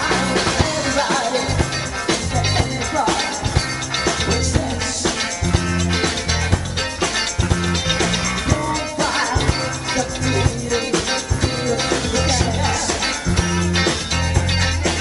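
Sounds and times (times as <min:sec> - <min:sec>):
bass line low notes: 0:00.0 - 0:15.0
drum kit: 0:00.0 - 0:15.0
electric guitars: 0:00.0 - 0:15.0.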